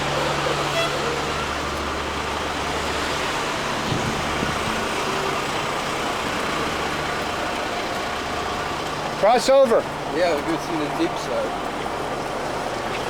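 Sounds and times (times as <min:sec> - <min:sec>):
low engine hum: 0:00.0 - 0:13.0
vehicle road noise: 0:00.0 - 0:13.0.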